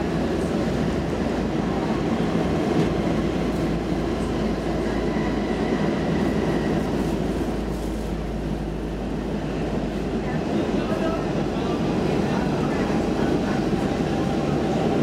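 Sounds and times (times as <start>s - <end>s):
subway wheels on rails: 0.0s - 15.0s.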